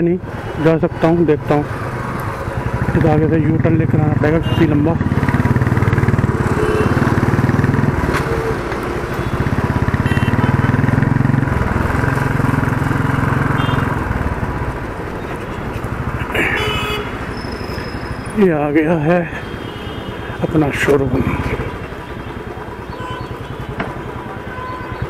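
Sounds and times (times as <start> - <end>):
road and wind noise: 0.0 - 25.0
motorcycle engine running: 1.7 - 25.0.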